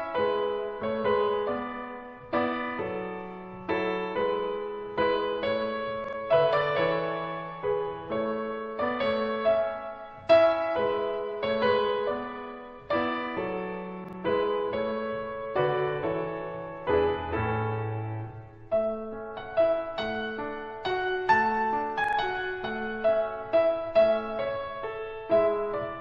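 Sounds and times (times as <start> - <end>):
slow gentle piano piece: 0.0 - 26.0.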